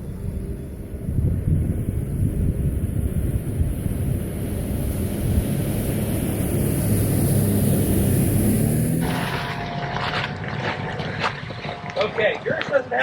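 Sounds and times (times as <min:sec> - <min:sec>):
car engine running: 0:02.0 - 0:12.9.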